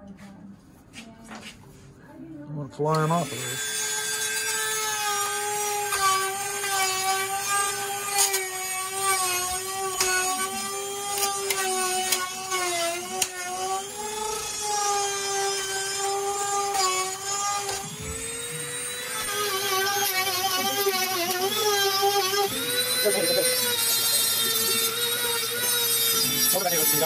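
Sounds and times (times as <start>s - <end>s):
rotary tool grinding metal: 2.9s - 27.0s.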